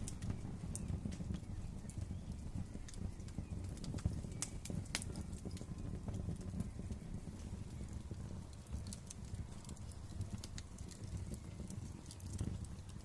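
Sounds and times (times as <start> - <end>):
low rumble of flames: 0.0 - 13.0
wood fire pops and snaps: 0.0 - 13.0.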